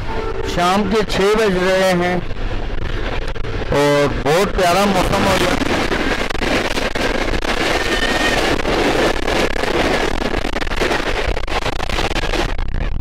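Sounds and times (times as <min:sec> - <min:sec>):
rush of wind: 0:00.0 - 0:13.0.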